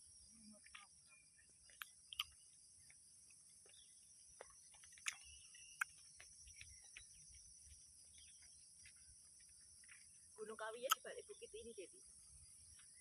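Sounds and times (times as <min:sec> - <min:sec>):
faint chirps: 0:00.0 - 0:13.0
insects droning in chorus: 0:00.0 - 0:13.0.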